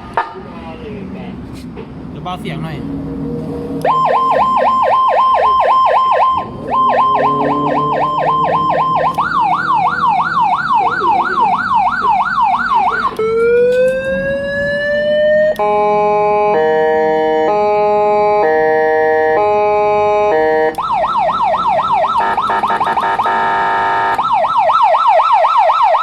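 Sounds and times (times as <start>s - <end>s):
electronic siren cycling tones: 2.8s - 26.0s.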